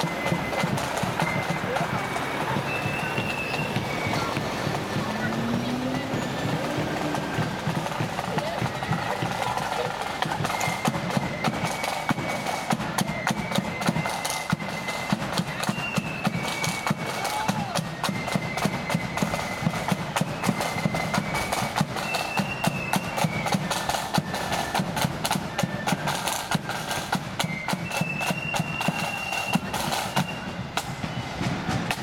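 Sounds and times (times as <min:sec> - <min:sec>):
flutes playing in unison: 0:00.0 - 0:32.0
rapid side drumming: 0:00.0 - 0:32.0.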